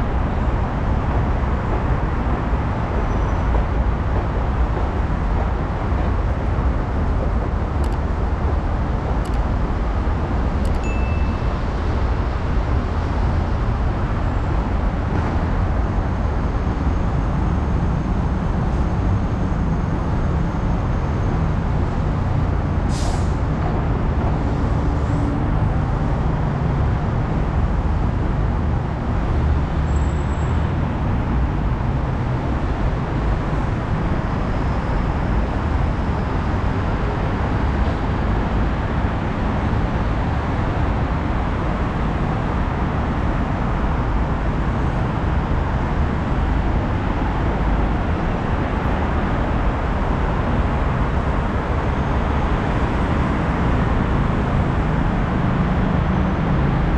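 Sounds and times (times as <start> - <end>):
road traffic: 0.0 - 56.9.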